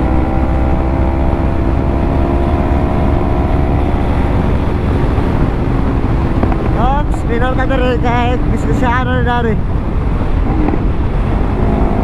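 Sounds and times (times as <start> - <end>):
motorcycle engine running: 0.0 - 8.6, 9.7 - 12.0
low road rumble: 0.0 - 12.0.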